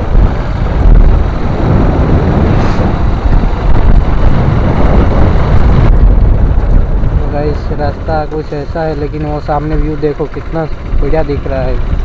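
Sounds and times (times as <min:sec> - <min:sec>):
road and vehicle noise: 0:00.0 - 0:12.0
wind buffeting microphone: 0:00.0 - 0:12.0.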